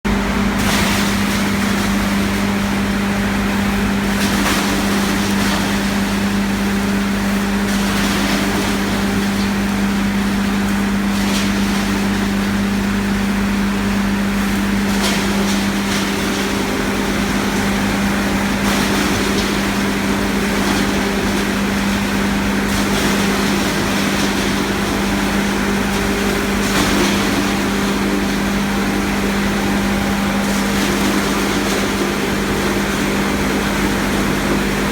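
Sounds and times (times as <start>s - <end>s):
wood crusher grinding: 0.2s - 34.9s.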